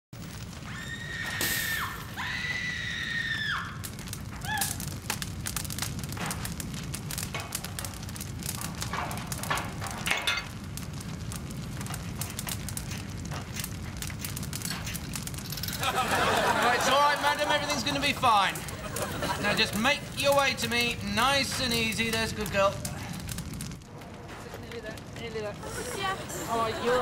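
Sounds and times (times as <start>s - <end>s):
fire crackling: 0.1s - 27.0s.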